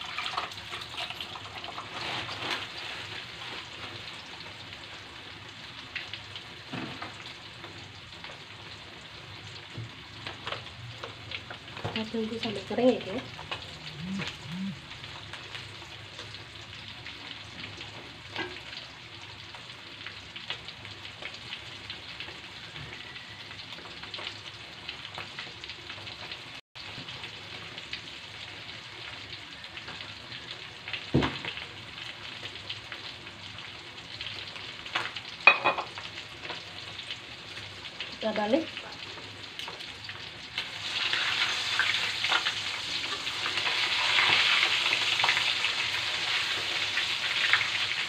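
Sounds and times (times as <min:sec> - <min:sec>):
chicken deep-frying in oil: 0:00.0 - 0:48.0.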